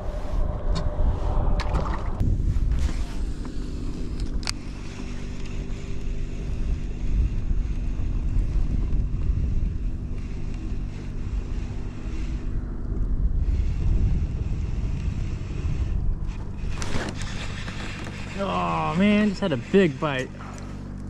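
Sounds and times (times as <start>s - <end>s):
wind buffeting microphone: 0.0s - 21.0s
fishing reel whirring: 2.8s - 12.8s, 13.4s - 21.0s.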